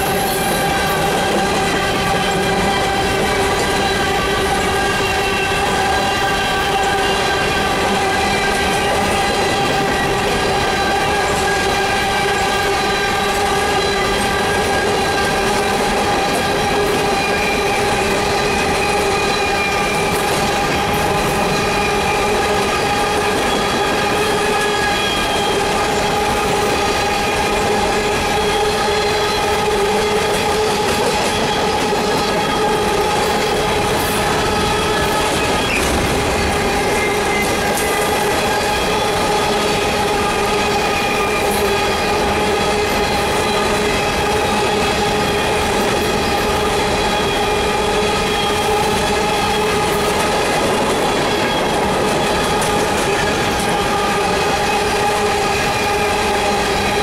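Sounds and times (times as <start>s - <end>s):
train wheels clattering on rails: 0.0s - 57.0s
wheels squealing: 0.0s - 57.0s.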